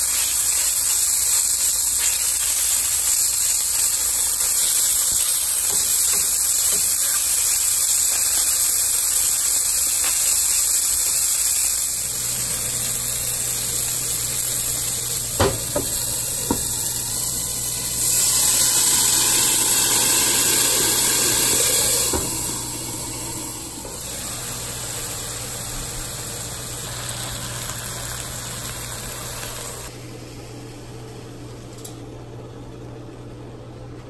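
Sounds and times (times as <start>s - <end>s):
loud hiss of steam: 0.0s - 29.9s
chicken sizzling in a skillet: 0.0s - 30.9s.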